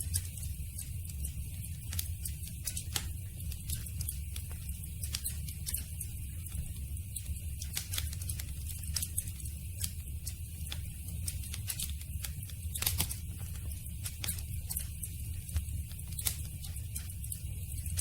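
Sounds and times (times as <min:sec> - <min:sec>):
campfire wood crackling and popping: 0:00.0 - 0:18.0
low rumble of flames: 0:00.0 - 0:18.0.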